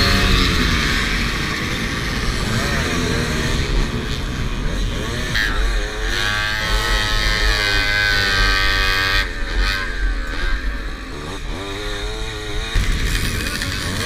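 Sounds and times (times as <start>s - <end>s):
moped engine revving hard: 0.0s - 14.0s.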